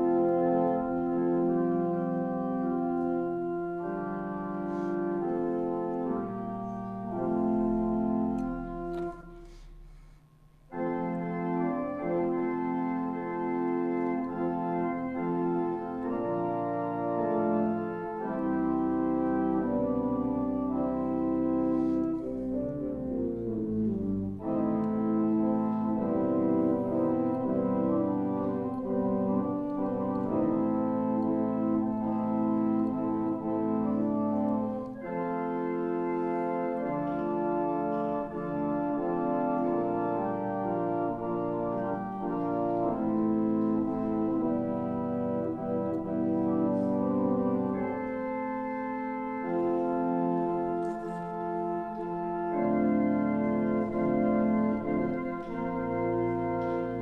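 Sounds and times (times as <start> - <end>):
organ playing slow chords: 0.0 - 57.0.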